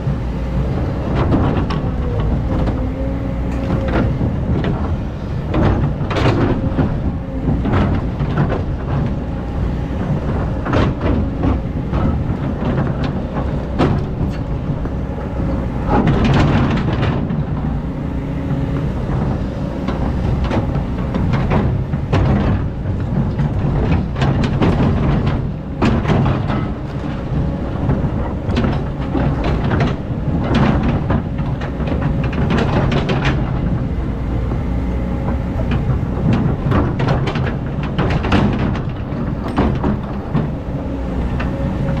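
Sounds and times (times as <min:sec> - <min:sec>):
excavator diesel engine: 0:00.0 - 0:42.0.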